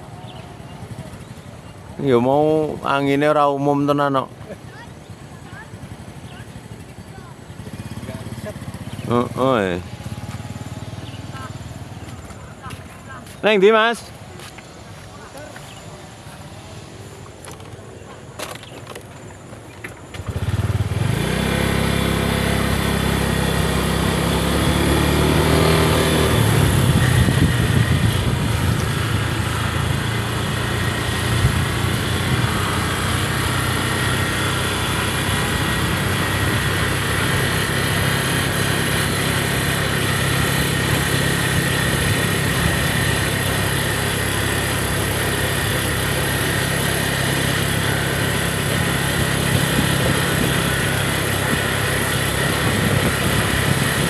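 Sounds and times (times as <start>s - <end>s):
small motorcycle engine running: 0.0s - 54.0s.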